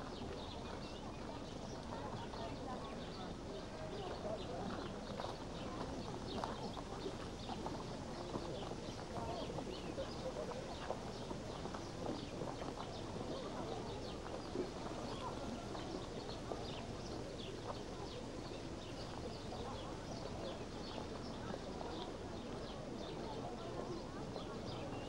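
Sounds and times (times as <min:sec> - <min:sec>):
murmur of distant people: 0:00.0 - 0:25.0
small birds chirping: 0:00.0 - 0:25.0.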